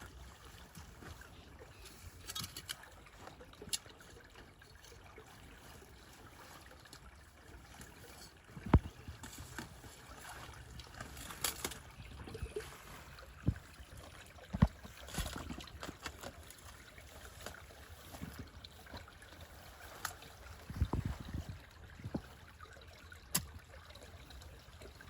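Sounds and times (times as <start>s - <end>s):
river water trickling: 0.0s - 25.0s.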